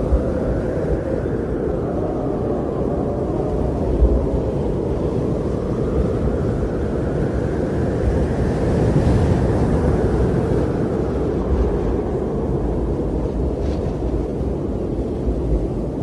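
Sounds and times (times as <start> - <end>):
blizzard wind blowing: 0.0 - 16.0.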